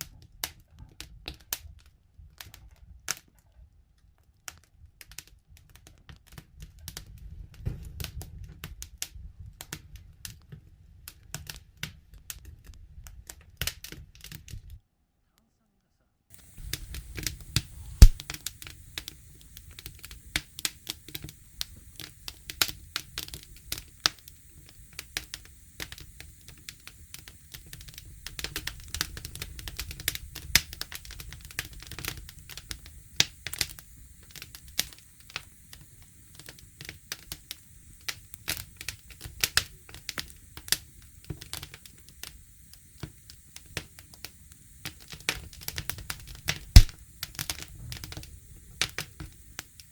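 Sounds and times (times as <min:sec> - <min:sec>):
campfire crackling and popping: 0:04.5 - 0:14.7, 0:16.3 - 0:49.9.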